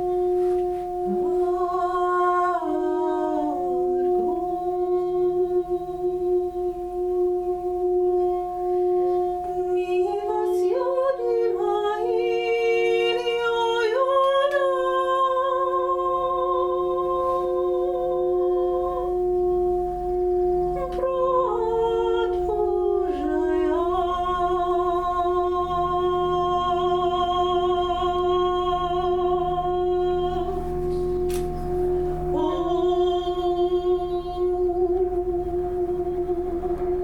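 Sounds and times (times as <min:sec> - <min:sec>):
singing bowl ringing: 0:00.0 - 0:37.0
wordless sustained vocal tone: 0:00.0 - 0:37.0.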